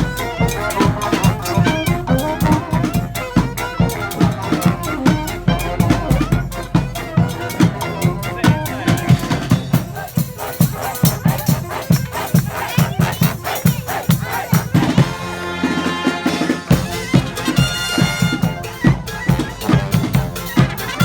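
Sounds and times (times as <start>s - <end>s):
drum beat: 0.0s - 21.0s
street band horns: 0.0s - 21.0s.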